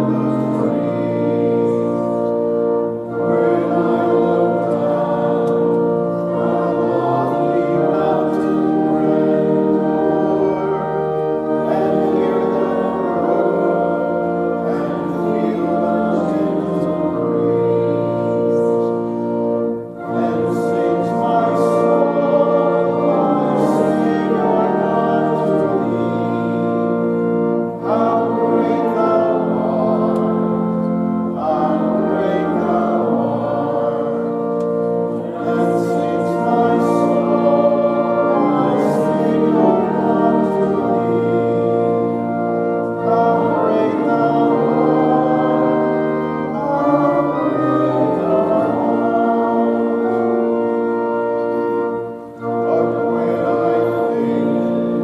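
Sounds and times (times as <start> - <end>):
choir singing sacred music: 0.0 - 55.0
organ playing: 0.0 - 55.0.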